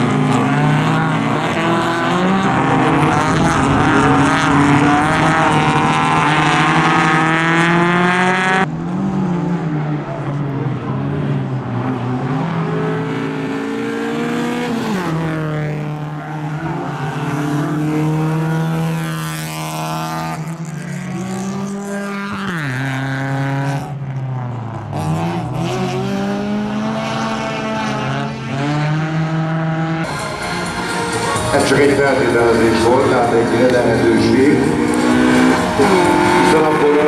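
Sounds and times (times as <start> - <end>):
racing car engines at high revs: 0.0 - 37.0.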